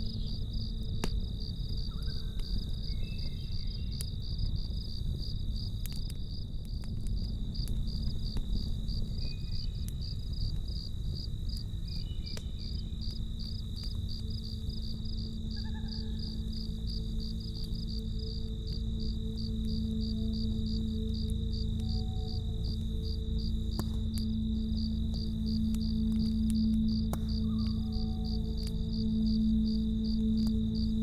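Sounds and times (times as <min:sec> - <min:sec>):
campfire crackling and popping: 0:00.0 - 0:31.0
crickets chirping: 0:00.0 - 0:31.0
low rumble: 0:00.0 - 0:31.0.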